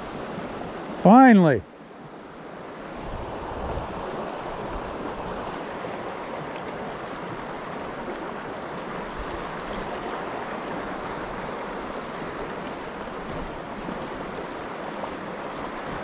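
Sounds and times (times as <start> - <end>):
creek rushing: 0.0 - 16.0.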